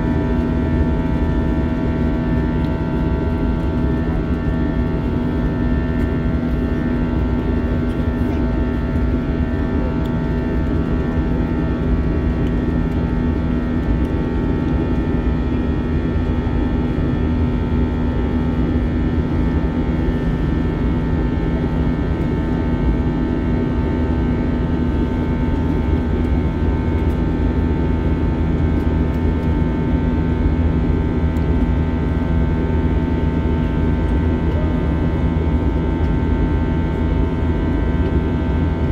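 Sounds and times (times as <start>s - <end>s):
airplane cabin noise: 0.0s - 38.9s.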